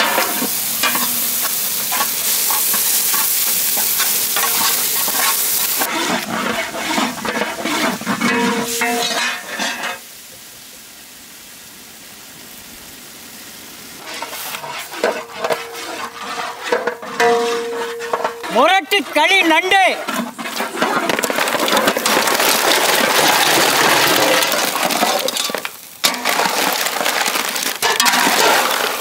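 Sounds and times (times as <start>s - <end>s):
metal ladle scraping pot: 0.0s - 10.0s, 14.0s - 29.0s
spices sizzling in hot oil: 0.0s - 29.0s.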